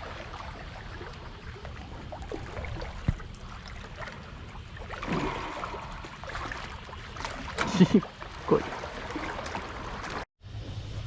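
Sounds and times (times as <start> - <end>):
sea water sloshing: 0.0 - 10.3.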